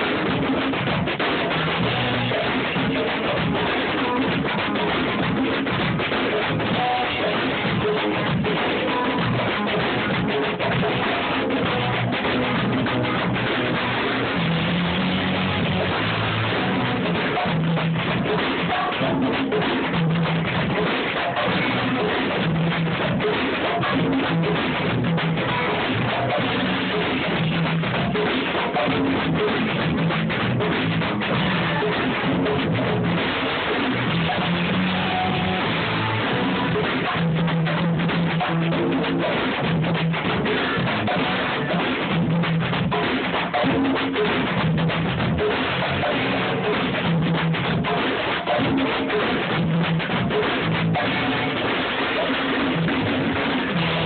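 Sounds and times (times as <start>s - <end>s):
band with drums and guitar: 0.0s - 54.0s.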